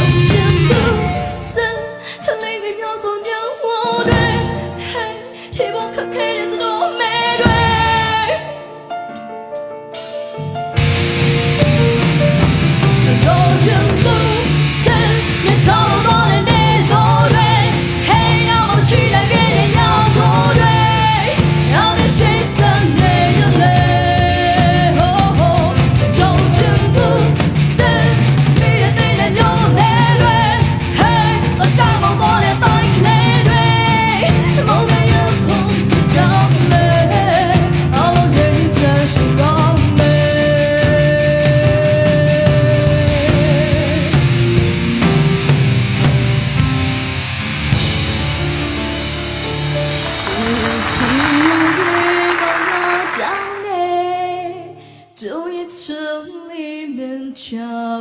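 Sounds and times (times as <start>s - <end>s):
woman singing into a microphone: 0.0s - 8.7s, 13.0s - 44.3s, 50.2s - 58.0s
live band playing: 0.0s - 55.0s.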